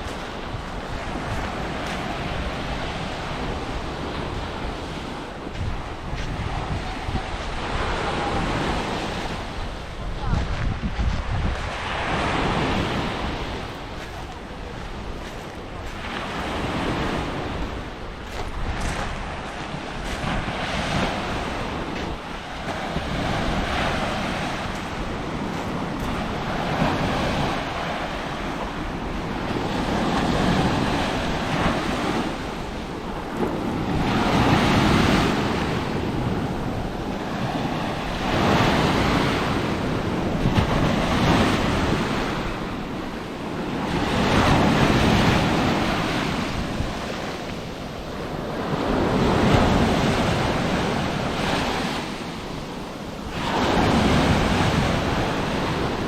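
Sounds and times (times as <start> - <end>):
waves breaking on shore: 0.0 - 56.0
wind buffeting microphone: 0.0 - 56.0.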